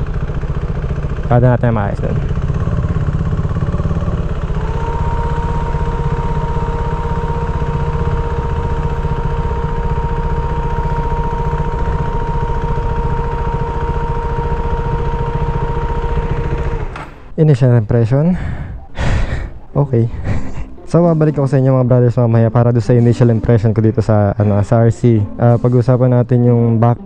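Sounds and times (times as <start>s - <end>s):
motorcycle engine rumbling: 0.0s - 27.0s
steady whine: 0.0s - 27.0s.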